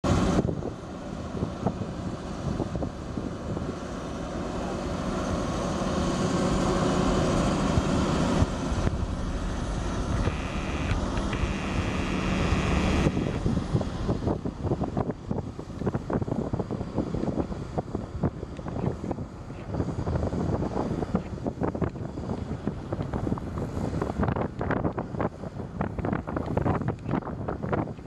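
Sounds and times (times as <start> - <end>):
diesel engine droning: 0.1 - 24.4.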